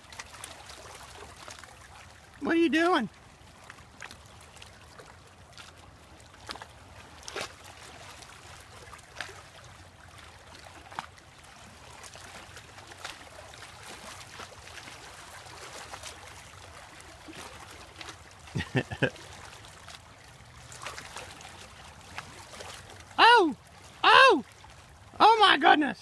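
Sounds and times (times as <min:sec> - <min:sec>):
small waves lapping against rocks: 0:00.0 - 0:26.0.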